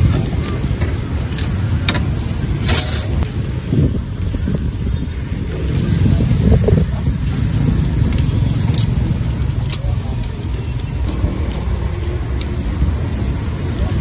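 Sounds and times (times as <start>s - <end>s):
low street rumble: 0.0s - 14.0s.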